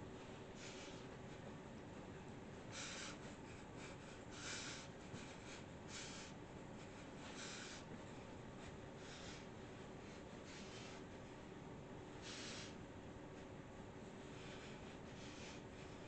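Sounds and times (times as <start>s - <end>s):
soft breathy puffs: 0.2s - 16.0s.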